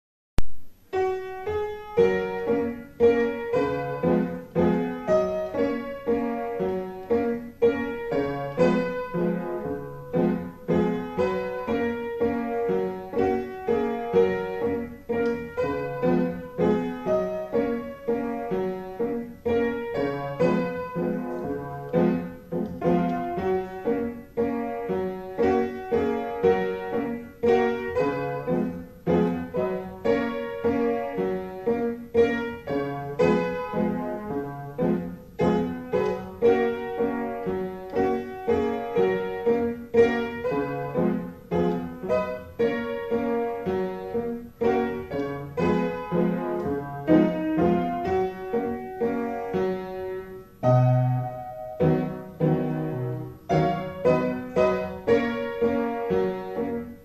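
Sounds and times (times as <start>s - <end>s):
upright piano playing a waltz: 0.7s - 57.0s.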